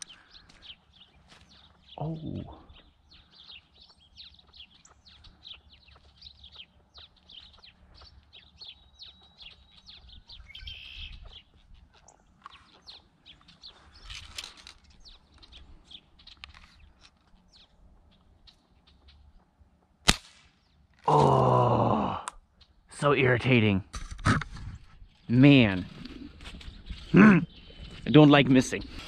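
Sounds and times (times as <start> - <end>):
sparrows chirping: 0.0 - 19.9, 20.6 - 21.0, 22.5 - 23.8, 24.9 - 29.0.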